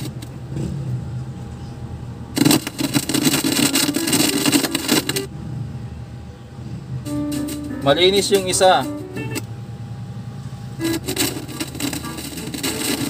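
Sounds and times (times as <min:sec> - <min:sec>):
speaker low hum: 0:00.9 - 0:13.0.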